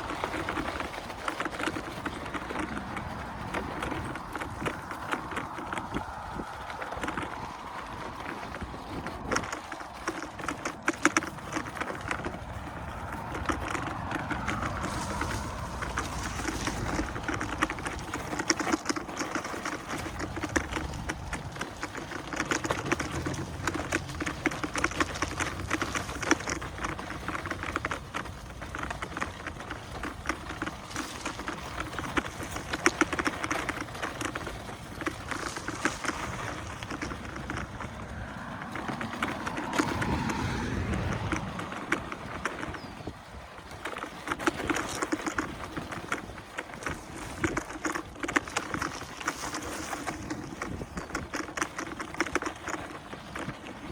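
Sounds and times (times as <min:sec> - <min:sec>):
wheel rattling over dirt trail: 0:00.0 - 0:53.9.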